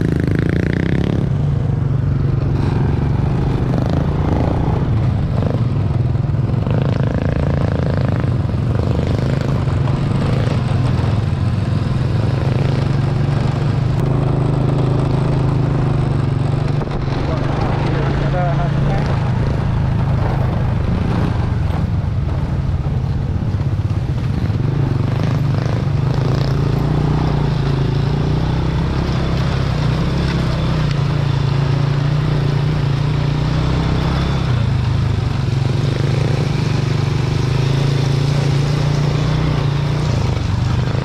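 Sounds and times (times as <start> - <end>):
constant rushing noise: 0.0 - 41.0
motorcycle engine running: 0.0 - 41.0.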